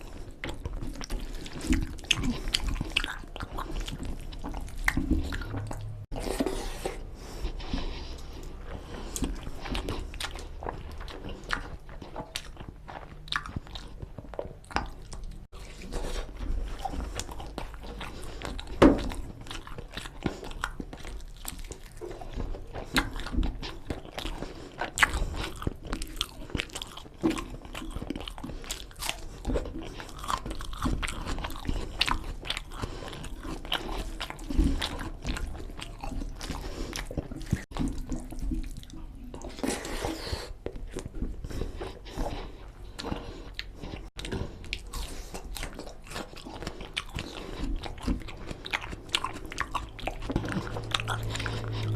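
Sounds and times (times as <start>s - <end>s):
person chewing food: 0.0s - 51.9s.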